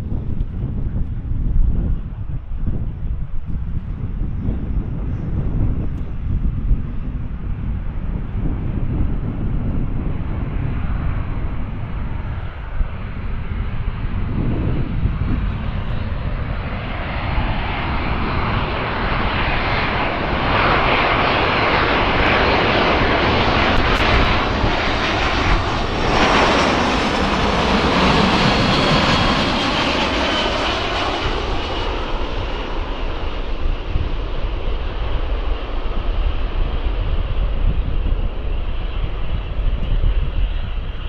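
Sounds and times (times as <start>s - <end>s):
jet engines passing: 0.0s - 41.0s.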